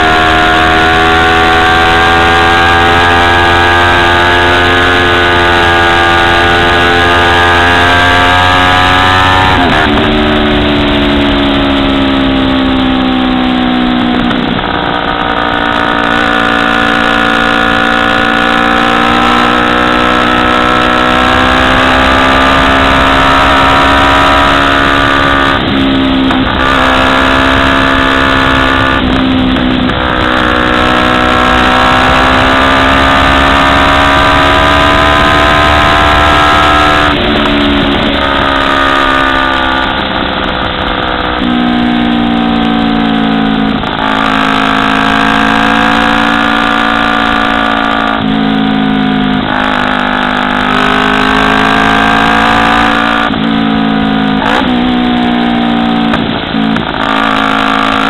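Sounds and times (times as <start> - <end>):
motorcycle engine revving: 0.0 - 58.0
wind rush: 3.6 - 58.0.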